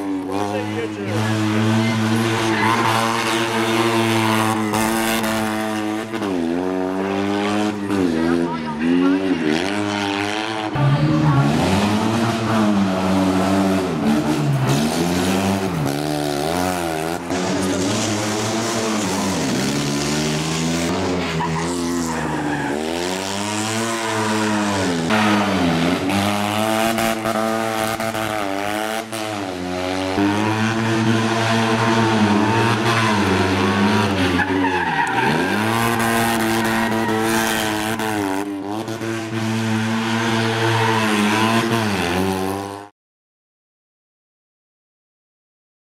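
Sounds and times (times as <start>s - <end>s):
rally car engine revving hard: 0.0s - 42.9s.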